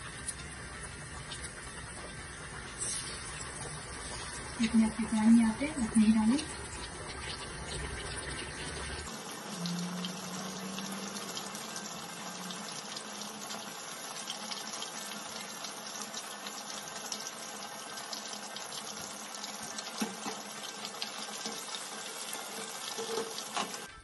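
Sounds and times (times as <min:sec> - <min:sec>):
fish frying in hot oil: 0:00.0 - 0:23.9.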